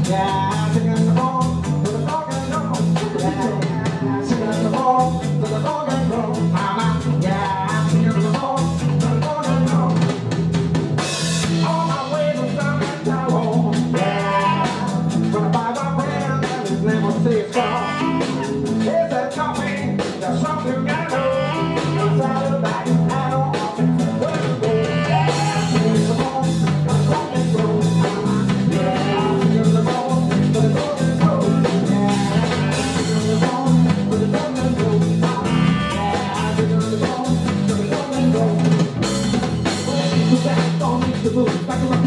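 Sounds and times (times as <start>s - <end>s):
person singing: 0.0s - 10.2s, 11.4s - 42.0s
live rhythm and blues band: 0.0s - 42.0s.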